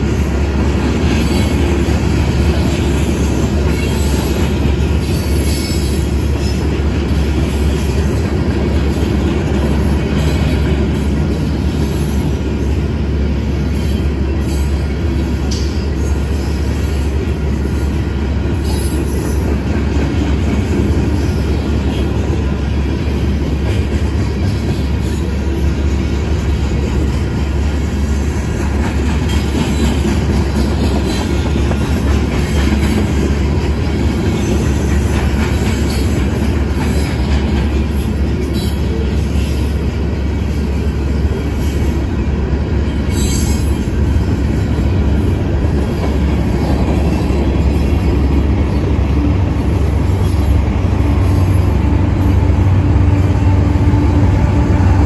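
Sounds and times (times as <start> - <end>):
diesel locomotive engines humming: 0.0 - 55.0
steel wheels rumbling on rail: 0.0 - 55.0.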